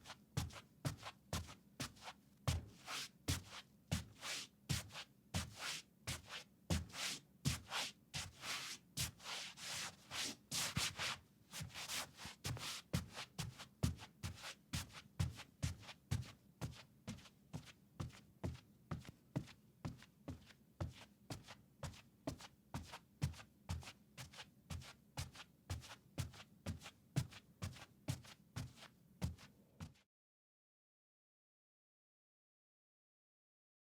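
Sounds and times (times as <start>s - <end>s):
bare feet walking on carpet: 0.0s - 30.0s.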